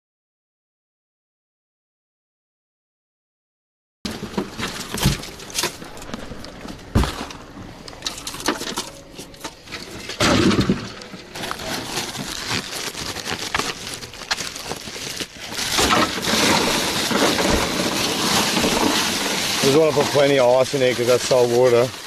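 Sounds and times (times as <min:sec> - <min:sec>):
ice clattering and knocking: 0:04.1 - 0:22.0.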